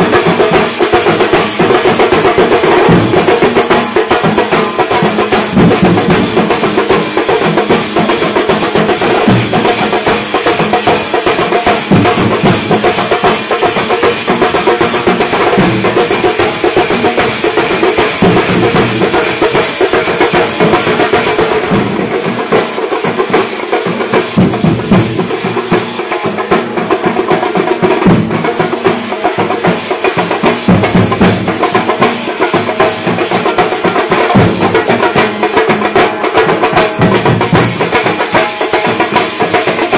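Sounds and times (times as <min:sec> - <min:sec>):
cymbals clashing: 0:00.0 - 0:27.2, 0:27.8 - 0:39.9
drums playing fast: 0:00.0 - 0:39.9.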